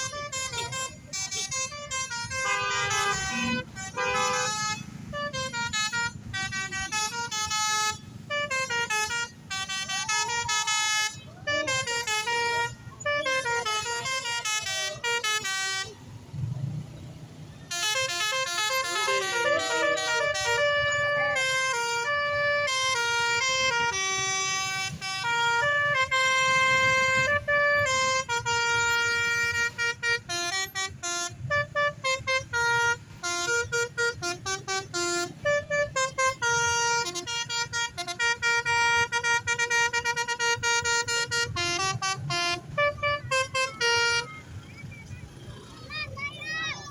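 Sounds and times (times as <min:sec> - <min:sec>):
multi-tone bus horn tunes: 0:00.0 - 0:45.8
low engine rumble: 0:00.0 - 0:46.9.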